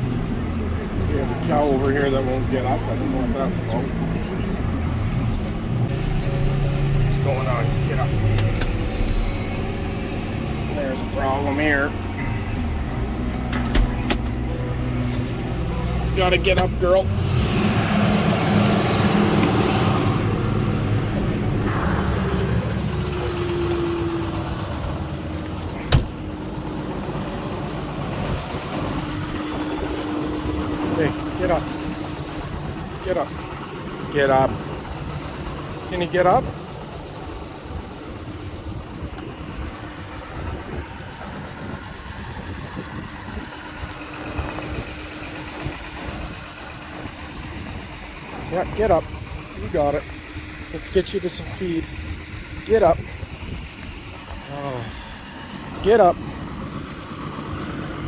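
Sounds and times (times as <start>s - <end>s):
constant rushing noise: 0.0s - 58.0s
vehicle engine running: 0.0s - 58.0s.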